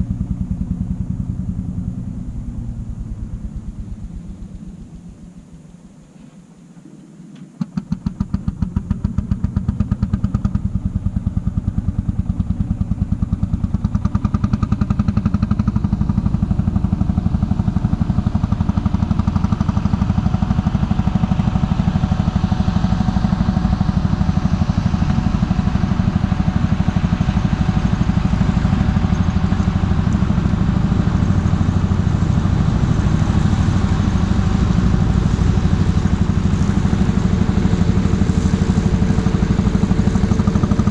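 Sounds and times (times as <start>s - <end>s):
tractor engine running: 0.0s - 5.9s, 7.4s - 40.9s.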